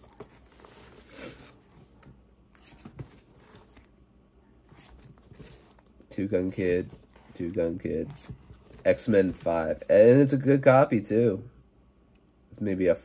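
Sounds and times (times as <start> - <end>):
comic books rustling: 0.0 - 10.6.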